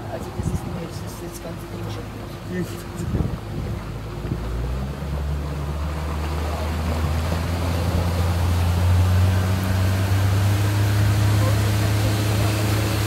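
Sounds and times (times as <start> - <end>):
speedboat engine droning: 0.0 - 13.0
water hissing along hull: 0.0 - 13.0.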